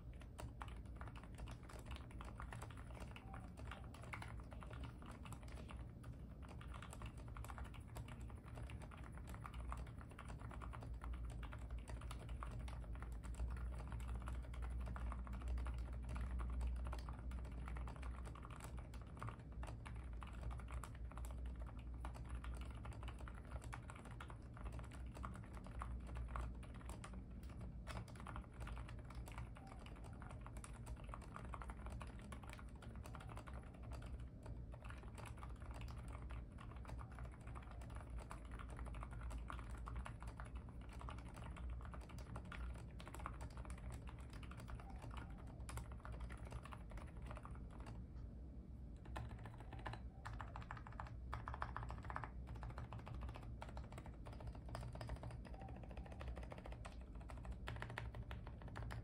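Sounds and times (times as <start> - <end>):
mechanical keyboard typing: 0.0 - 48.2, 48.9 - 59.0
steady low hum: 0.0 - 59.0.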